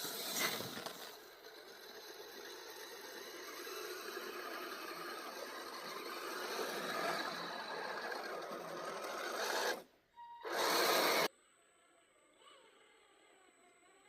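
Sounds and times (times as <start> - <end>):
small electric motor whirring: 0.0 - 11.3.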